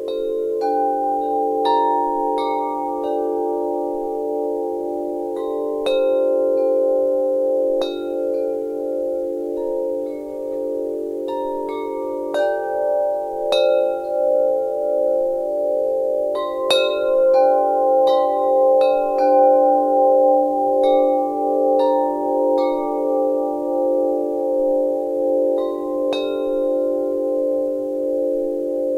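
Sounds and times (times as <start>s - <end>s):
wind chimes ringing: 0.0s - 28.9s.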